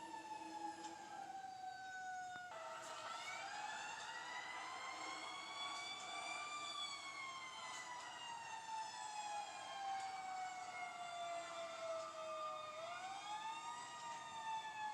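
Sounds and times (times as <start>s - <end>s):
fire truck siren wailing: 0.0s - 14.9s.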